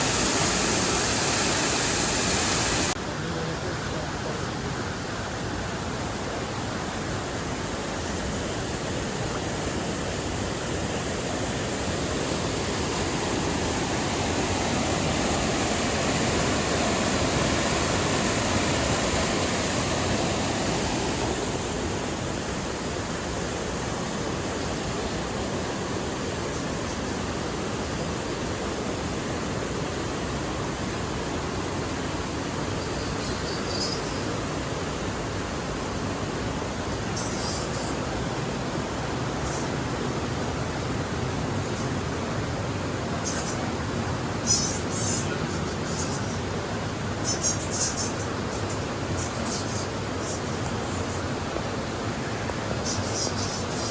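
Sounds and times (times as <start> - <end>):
waterfall rushing: 0.0 - 32.8, 34.1 - 53.9.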